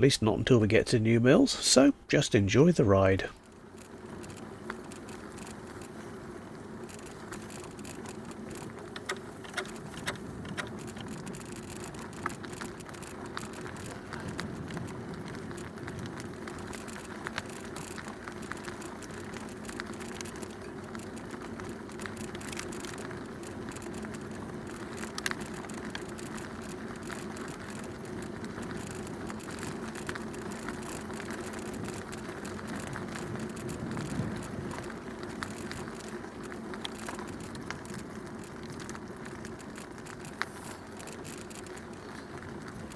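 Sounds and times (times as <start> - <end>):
bicycle tyres on path: 0.0 - 42.9
bicycle clicks and rattles: 3.4 - 42.9.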